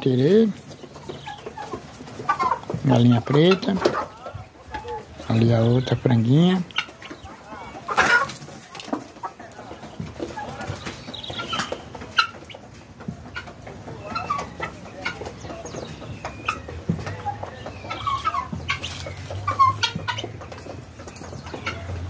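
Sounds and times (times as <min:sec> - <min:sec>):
poultry clucking and calling: 0:00.0 - 0:22.0.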